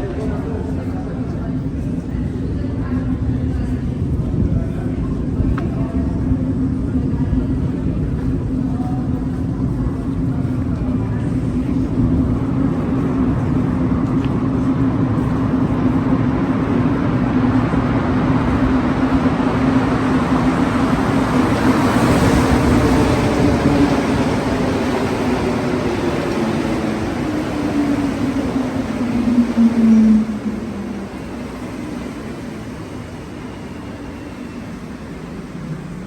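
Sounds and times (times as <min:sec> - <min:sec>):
train rolling noise: 0:00.0 - 0:36.0.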